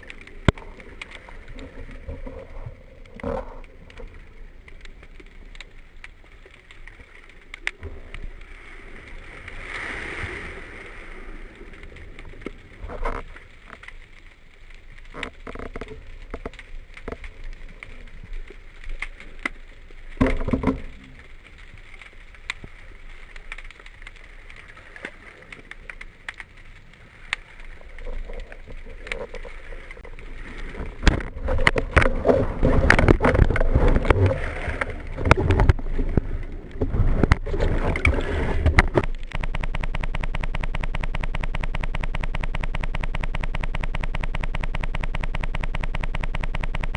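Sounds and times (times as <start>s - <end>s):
sharp underwater clicks: 0.0s - 9.6s, 11.6s - 46.9s
bubbling and splashing: 0.0s - 46.9s
underwater water noise: 0.0s - 46.9s.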